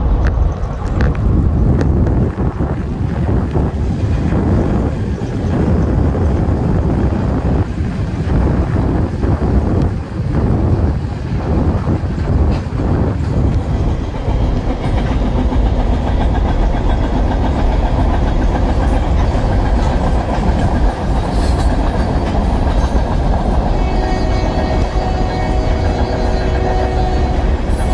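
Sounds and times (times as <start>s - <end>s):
train clatter: 0.0s - 27.9s
train wheels rumbling on rail: 0.0s - 27.9s.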